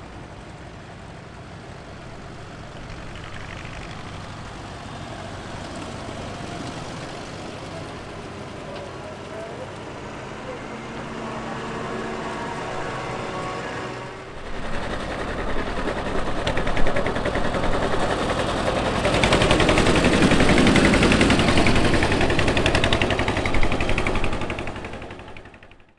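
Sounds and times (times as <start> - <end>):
tractor engine driving past: 0.0 - 25.9
tractor engine hum: 0.0 - 25.9.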